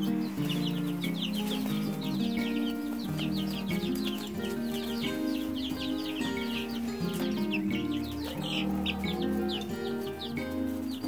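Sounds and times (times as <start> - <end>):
background music with low notes: 0.0 - 11.0
chicks peeping: 0.0 - 11.0.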